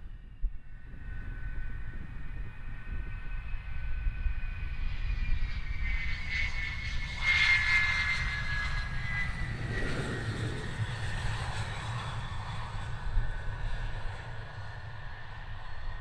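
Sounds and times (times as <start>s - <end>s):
high turbine whine: 0.0s - 16.0s
jet engine low rumble: 0.0s - 16.0s.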